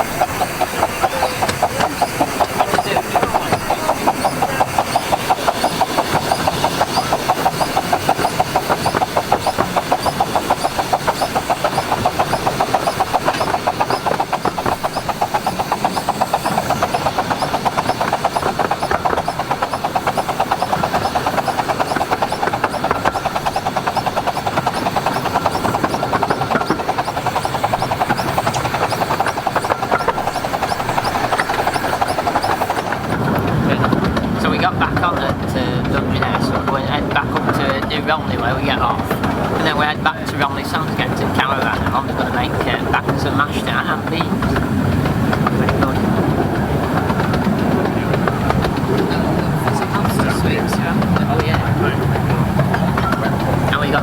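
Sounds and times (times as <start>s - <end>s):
miniature train running rhythmically: 0.0s - 54.0s.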